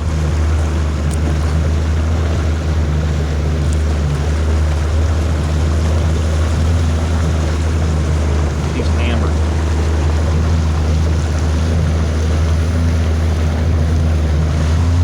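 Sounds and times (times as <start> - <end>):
boat motor humming: 0.0 - 15.0
water noise: 0.0 - 15.0
wind: 0.0 - 15.0.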